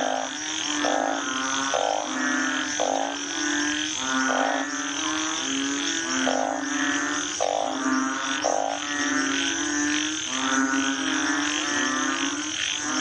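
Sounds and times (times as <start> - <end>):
frogs droning calls: 0.0 - 13.0
pulsed frog call: 0.0 - 13.0.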